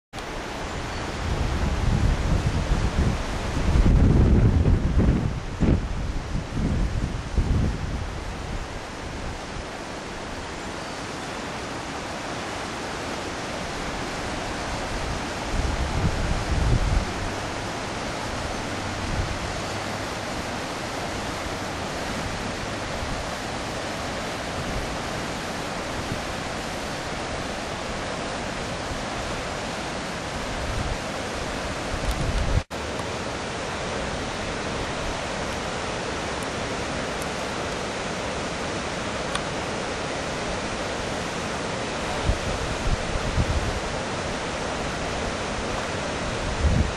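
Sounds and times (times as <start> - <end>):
river rushing over rapids: 0.2 - 46.9.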